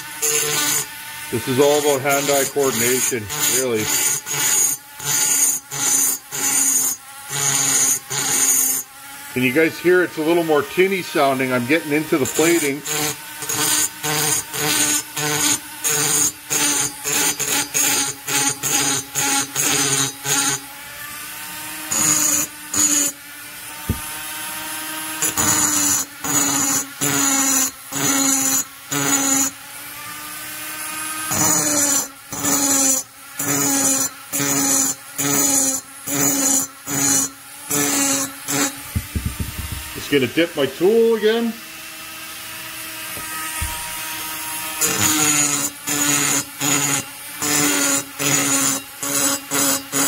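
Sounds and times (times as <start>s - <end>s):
burr grinding metal: 0.0s - 20.6s, 21.9s - 29.6s, 31.2s - 41.6s, 42.8s - 50.0s
rotary grinder whining: 0.0s - 50.0s.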